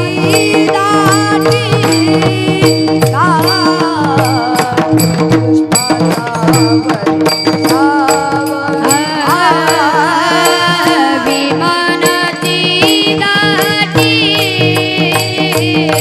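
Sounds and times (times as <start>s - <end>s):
drum strokes: 0.0s - 16.0s.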